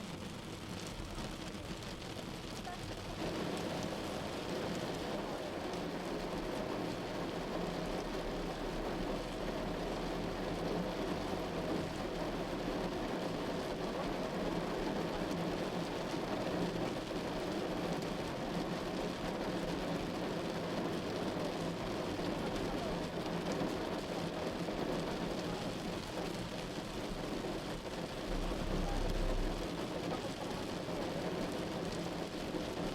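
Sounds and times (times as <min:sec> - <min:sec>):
heavy rain on car roof: 0:00.0 - 0:32.9
road and engine rumble: 0:00.1 - 0:32.9.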